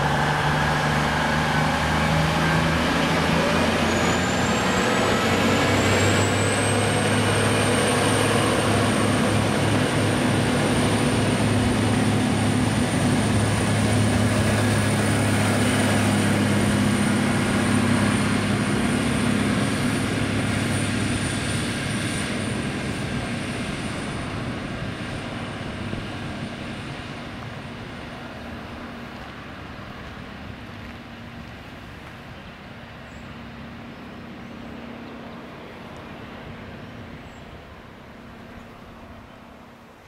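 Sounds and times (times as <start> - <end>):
train wheel noise: 0.0 - 34.2
diesel railcar engine hum: 0.0 - 40.0.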